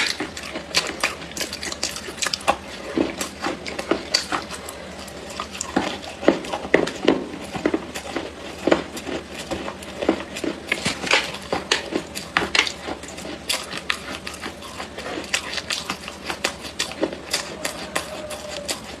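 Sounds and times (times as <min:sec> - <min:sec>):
clay chewing crunches: 0:00.0 - 0:19.0.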